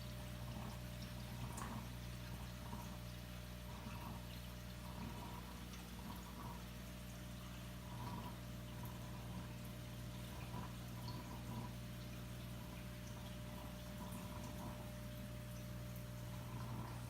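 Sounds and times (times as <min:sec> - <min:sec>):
water trickling with drips: 0:00.0 - 0:17.0.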